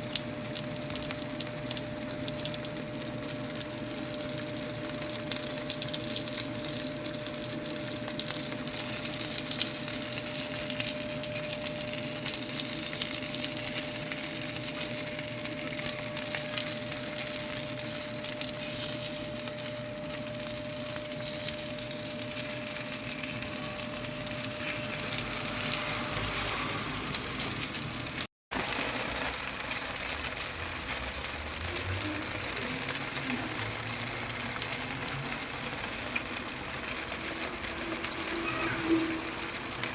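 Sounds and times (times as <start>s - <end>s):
dumplings sizzling in oil: 0.0s - 39.9s.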